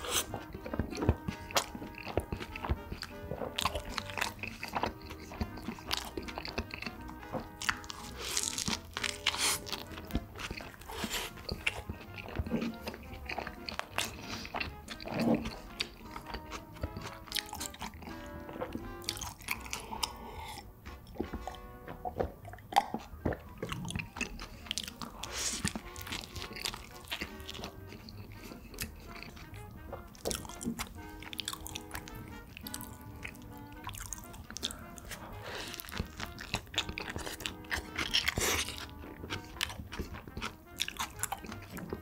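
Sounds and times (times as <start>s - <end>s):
background music with held notes: 0.0s - 42.0s
person chewing and biting: 0.0s - 42.0s.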